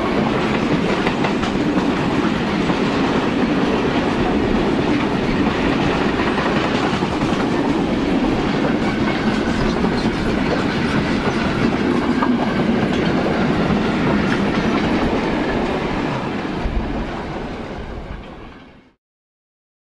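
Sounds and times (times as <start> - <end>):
train wheels on track: 0.0 - 18.8.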